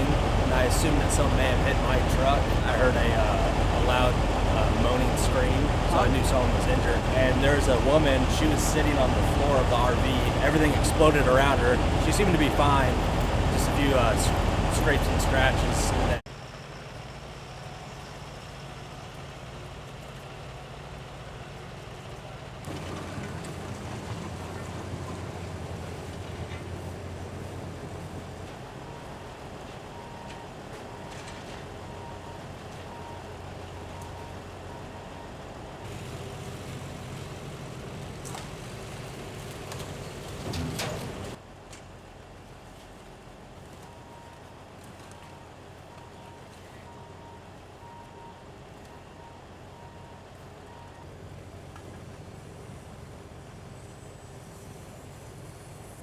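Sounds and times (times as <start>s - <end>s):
idling trucks and traffic hum: 0.0s - 56.0s.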